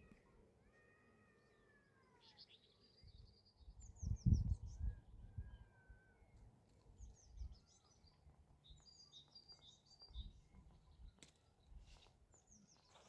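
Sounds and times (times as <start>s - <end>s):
faint songbird chirps: 0.0s - 13.0s.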